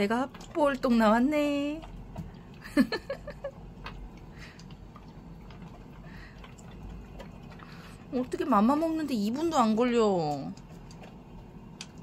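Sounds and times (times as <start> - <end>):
dog eating from bowl: 0.0 - 12.0.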